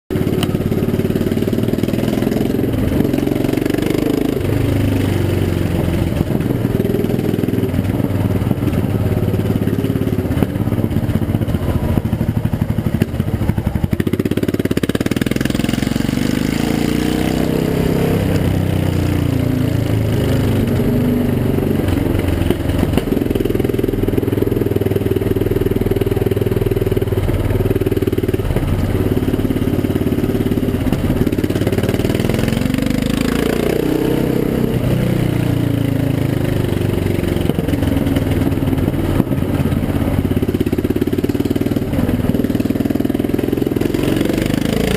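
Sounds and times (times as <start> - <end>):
motorcycle engine revving: 0.1 - 44.9.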